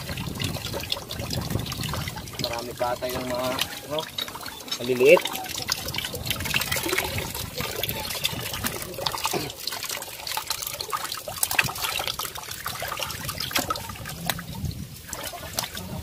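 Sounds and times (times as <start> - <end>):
hands splashing in water basin: 0.0 - 16.0
water dripping off hands: 0.0 - 16.0.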